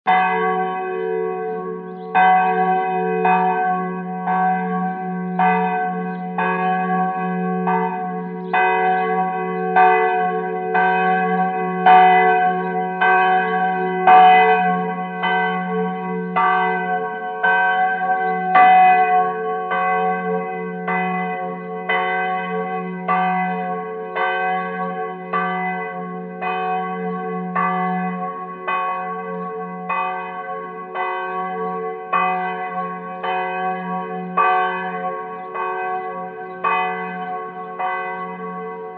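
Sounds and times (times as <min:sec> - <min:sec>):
church bell ringing: 0:00.1 - 0:38.9.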